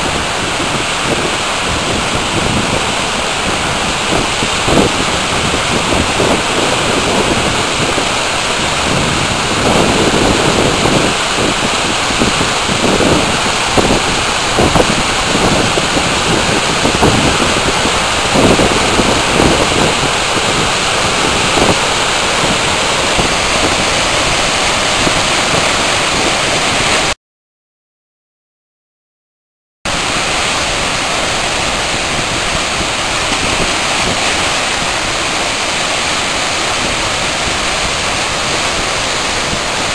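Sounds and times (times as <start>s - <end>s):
whitewater torrent over waterfall: 0.0s - 27.2s, 29.9s - 39.9s.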